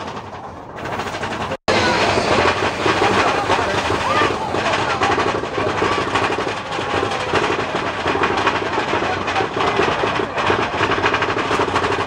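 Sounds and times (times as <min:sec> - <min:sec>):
roller coaster clattering on track: 0:00.0 - 0:12.0.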